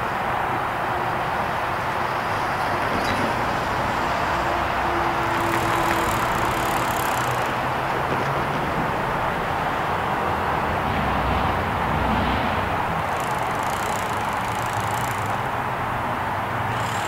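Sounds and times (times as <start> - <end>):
cars driving past: 0.0 - 17.0
truck passing: 0.0 - 17.0.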